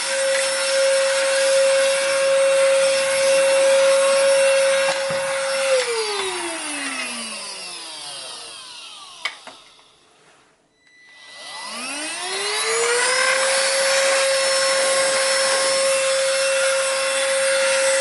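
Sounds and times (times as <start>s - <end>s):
handheld vacuum cleaner whining: 0.0s - 10.0s, 10.9s - 18.0s.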